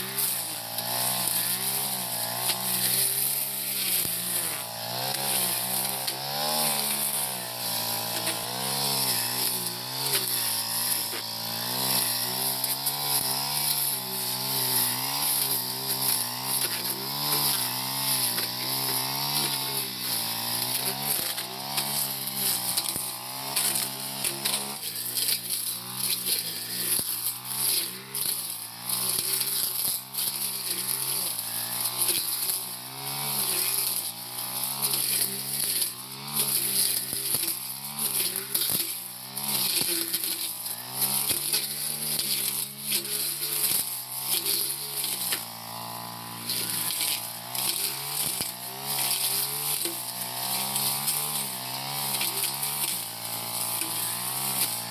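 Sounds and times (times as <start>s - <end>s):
brush cutter engine running: 0.0s - 54.9s.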